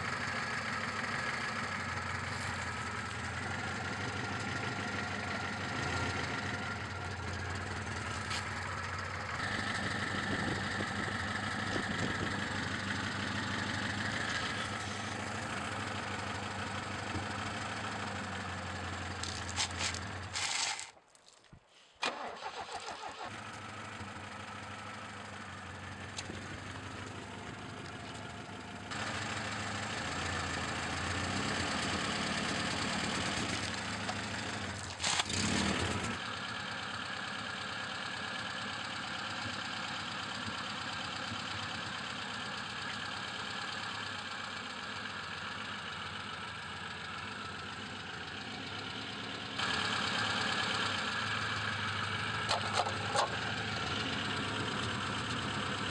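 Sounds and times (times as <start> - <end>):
car engine idling: 0.0 - 21.4, 22.0 - 55.9.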